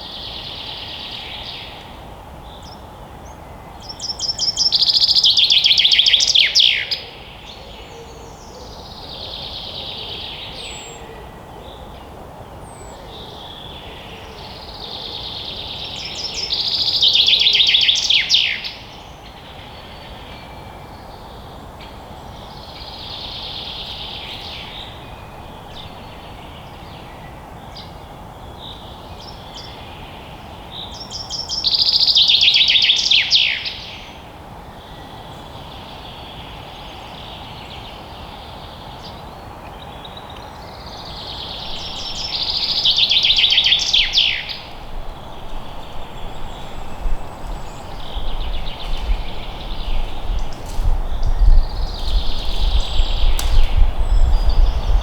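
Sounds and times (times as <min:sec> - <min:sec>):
songbird singing: 0:00.0 - 0:55.0
steady low hiss: 0:08.2 - 0:55.0.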